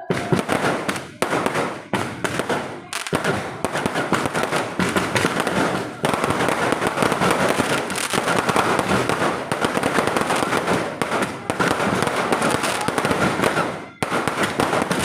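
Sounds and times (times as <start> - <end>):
fireworks and firecrackers crackling: 0.0 - 15.0.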